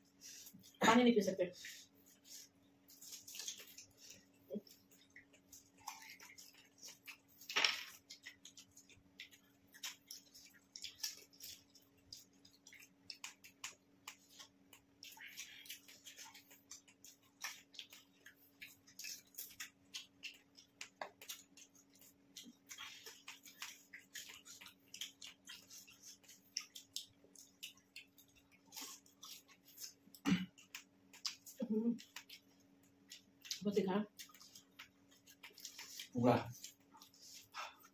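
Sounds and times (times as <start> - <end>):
wet mouth sounds: 1.6 - 37.9.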